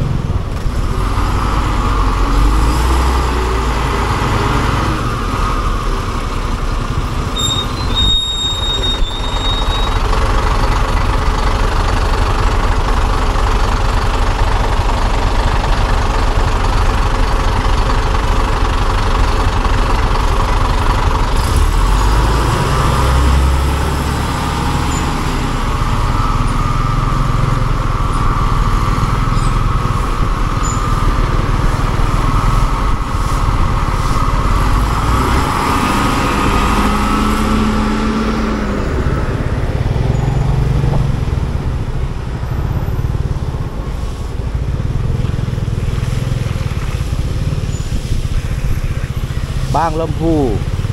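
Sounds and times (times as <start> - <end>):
bus diesel engine: 0.0 - 50.9
deep rumble: 0.0 - 50.9
scooter engine: 0.0 - 50.9.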